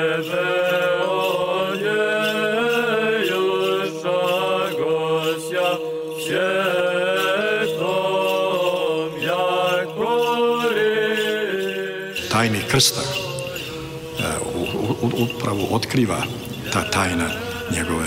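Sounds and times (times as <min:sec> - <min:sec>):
monks chanting in unison: 0:00.0 - 0:18.0.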